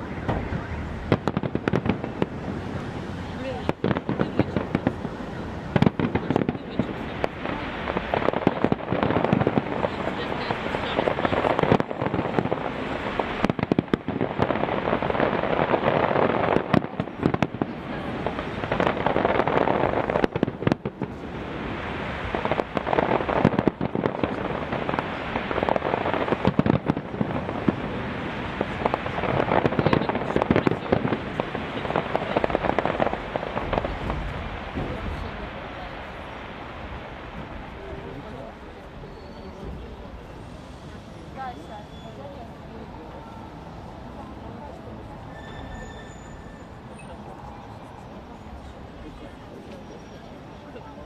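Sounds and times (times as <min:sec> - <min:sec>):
fireworks crackling and popping: 0:00.0 - 0:51.0.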